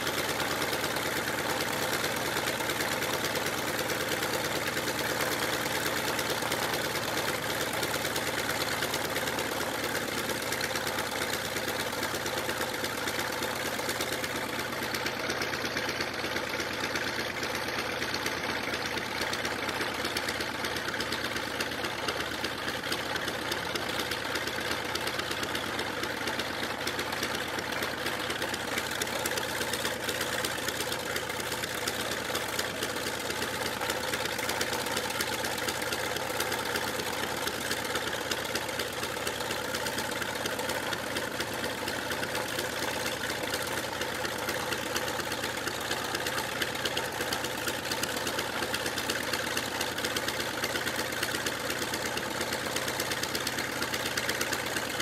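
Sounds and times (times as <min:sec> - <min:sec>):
radial aircraft engine idling: 0:00.0 - 0:55.0.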